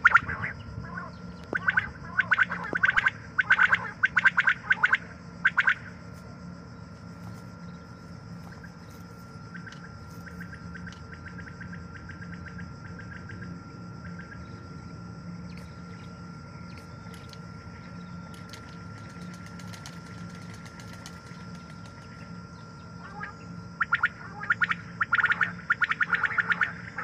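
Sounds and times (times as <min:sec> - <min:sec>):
faint high whine: 0:00.0 - 0:27.0
low mechanical hum: 0:00.0 - 0:27.0.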